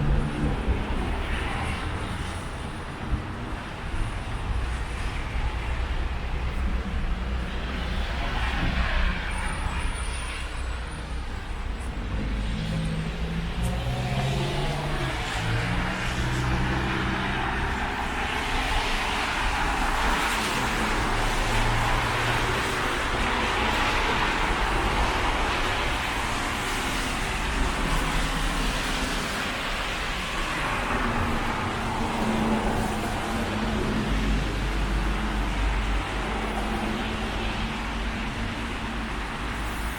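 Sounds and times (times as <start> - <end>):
steady low traffic rumble: 0.0 - 39.9
vehicles passing: 0.0 - 39.9.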